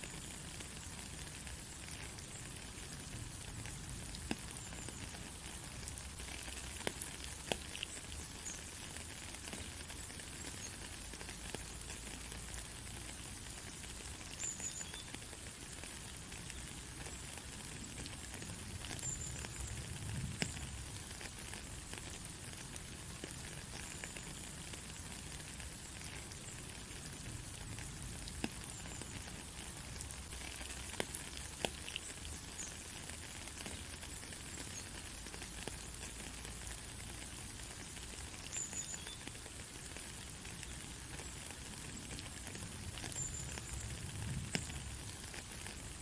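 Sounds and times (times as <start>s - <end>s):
rain pattering on road: 0.0s - 46.0s.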